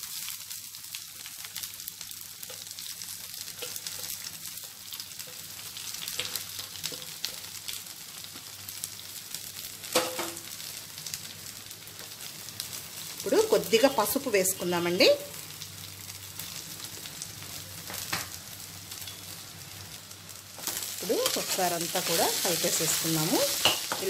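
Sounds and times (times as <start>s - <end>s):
leaves sizzling in hot oil: 0.0s - 24.0s.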